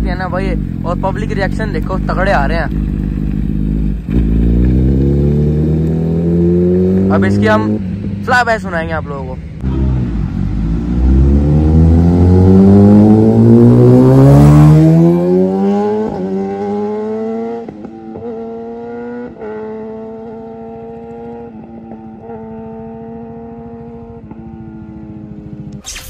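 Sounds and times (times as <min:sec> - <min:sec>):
motorcycle accelerating past: 0:02.7 - 0:08.2, 0:09.8 - 0:25.9.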